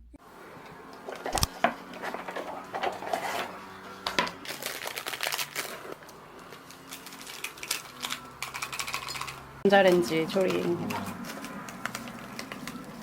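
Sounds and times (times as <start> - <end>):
rustling of objects handled: 0.3 - 13.0
objects clicking and tapping: 0.6 - 13.0.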